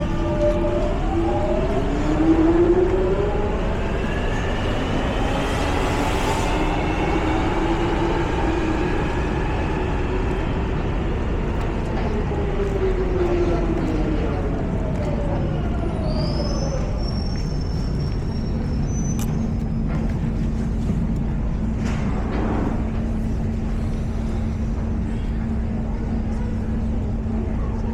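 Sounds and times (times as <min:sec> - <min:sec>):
underground train rumble: 0:00.0 - 0:27.9.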